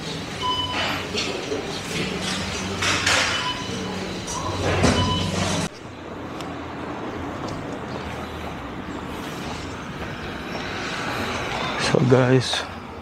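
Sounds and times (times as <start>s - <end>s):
supermarket hum: 0.0s - 11.8s
distant traffic: 0.0s - 13.0s.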